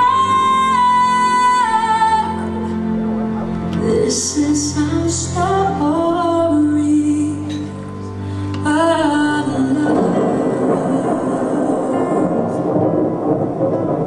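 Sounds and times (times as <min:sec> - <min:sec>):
woman singing slow song: 0:00.0 - 0:13.0.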